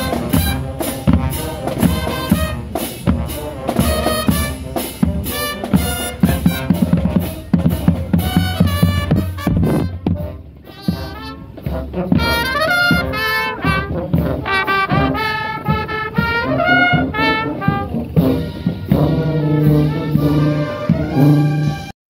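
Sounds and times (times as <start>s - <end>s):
drum hits: 0.0s - 21.8s
saxophones and trumpets playing: 0.0s - 22.0s
low sousaphone notes: 3.9s - 21.9s.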